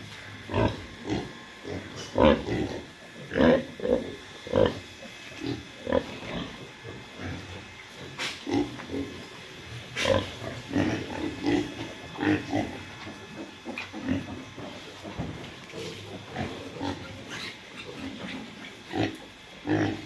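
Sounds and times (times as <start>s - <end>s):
pigs grunting: 0.0s - 20.0s.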